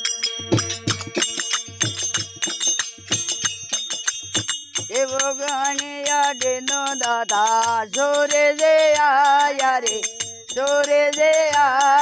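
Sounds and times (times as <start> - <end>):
dholak drum beating: 0.0 - 12.0.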